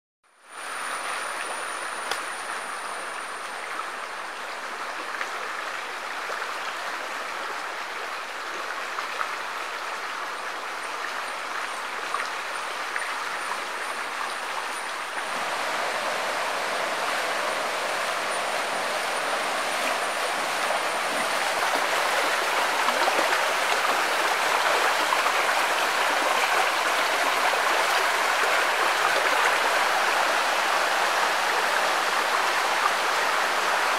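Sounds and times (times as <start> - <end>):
stream water rushing: 0.4 - 33.9.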